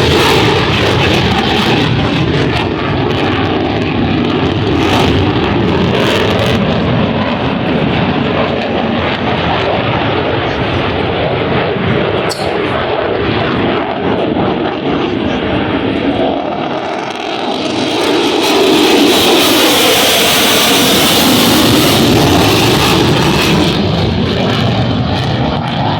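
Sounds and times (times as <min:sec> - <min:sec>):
aircraft engine noise: 0:00.0 - 0:25.9.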